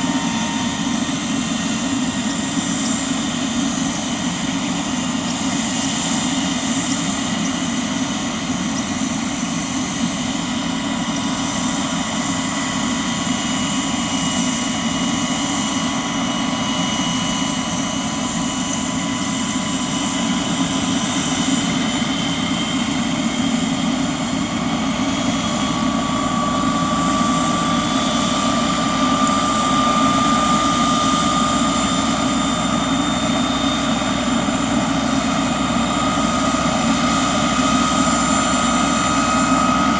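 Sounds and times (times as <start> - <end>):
helicopter rotor throb: 0.0 - 39.9
helicopter turbine whine: 0.0 - 39.9.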